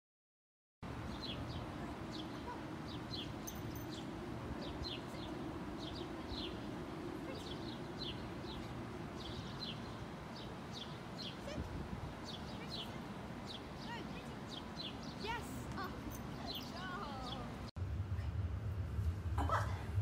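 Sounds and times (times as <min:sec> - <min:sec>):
low outdoor rumble: 0:00.8 - 0:20.0
bird chirping: 0:01.0 - 0:17.6.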